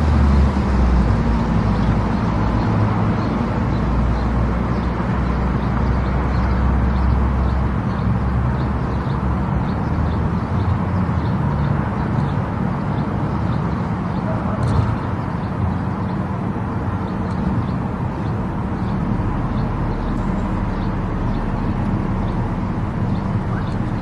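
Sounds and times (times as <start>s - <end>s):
low engine drone: 0.0s - 24.0s
tyre and road noise: 0.0s - 24.0s.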